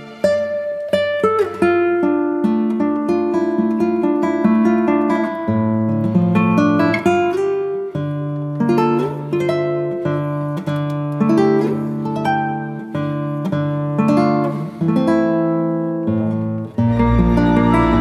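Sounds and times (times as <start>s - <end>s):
acoustic guitar picking and strumming: 0.0s - 18.0s.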